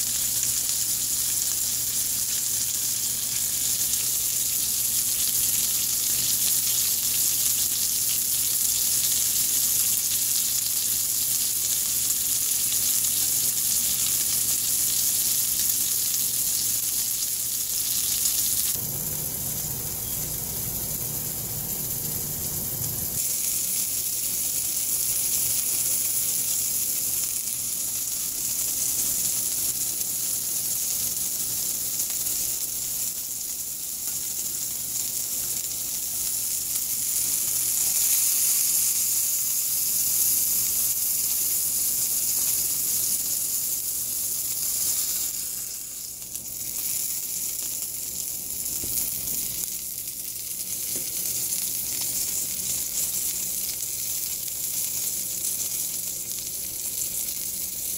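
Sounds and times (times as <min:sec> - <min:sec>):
sandwich sizzling in a frying pan: 0:00.0 - 0:57.9.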